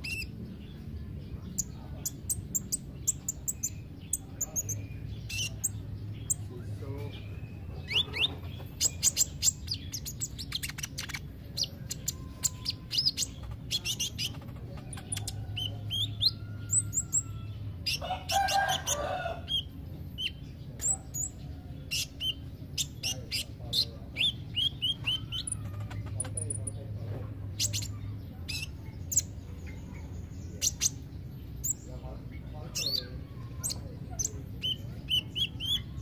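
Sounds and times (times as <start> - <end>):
sunbird chirping: 0.0 - 36.0.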